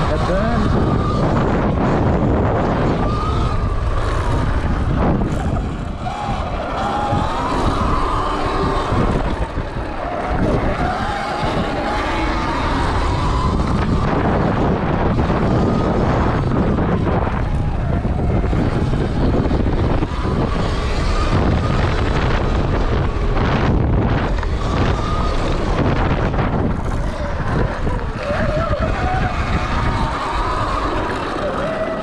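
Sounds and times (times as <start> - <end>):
electric motor whine: 0.0 - 32.0
wind buffeting microphone: 0.0 - 32.0.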